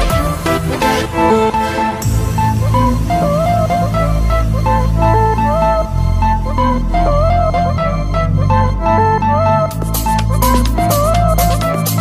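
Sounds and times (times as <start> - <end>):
electronic synth music: 0.0 - 12.0.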